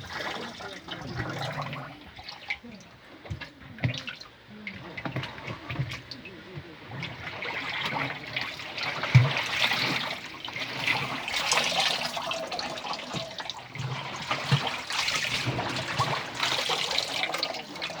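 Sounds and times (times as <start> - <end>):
water sloshing in washing machine: 0.0 - 18.0.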